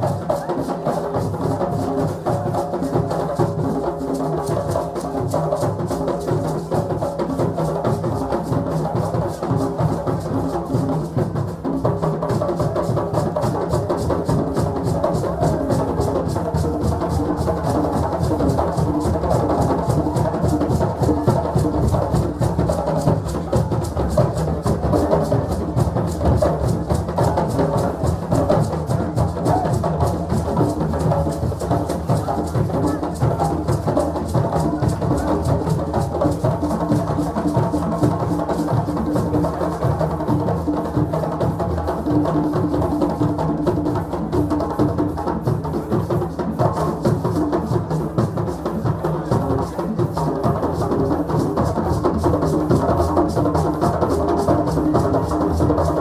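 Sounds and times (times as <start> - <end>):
hand drums fast rhythm: 0.0 - 56.0.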